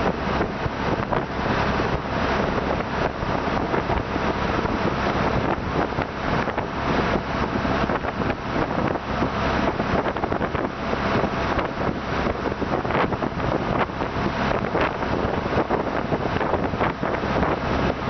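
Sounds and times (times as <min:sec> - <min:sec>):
boat engine drone: 0:00.0 - 0:18.0
rushing water: 0:00.0 - 0:18.0
wind buffeting microphone: 0:00.0 - 0:18.0.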